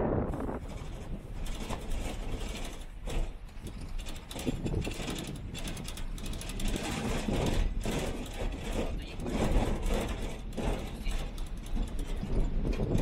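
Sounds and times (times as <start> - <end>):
low road rumble: 0.0 - 13.0
rapid clicking and rattling: 0.4 - 13.0.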